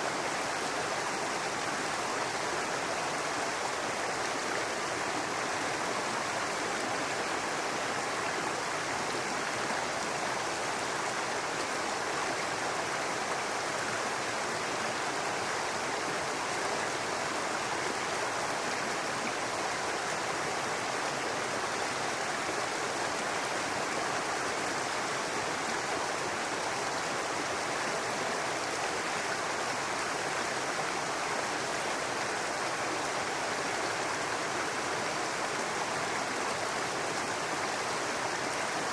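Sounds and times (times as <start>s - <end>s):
brook babbling over rocks: 0.0s - 38.9s.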